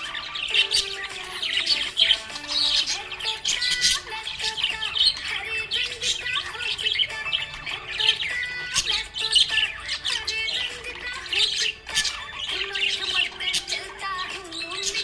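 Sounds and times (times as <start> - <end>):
background music with held notes: 0.0 - 15.0
budgerigars chirping and squawking: 0.0 - 15.0.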